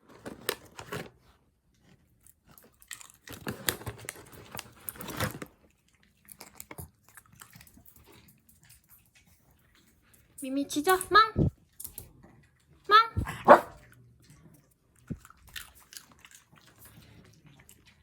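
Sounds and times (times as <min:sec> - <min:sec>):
dog chewing and crunching treat: 0:00.0 - 0:18.0.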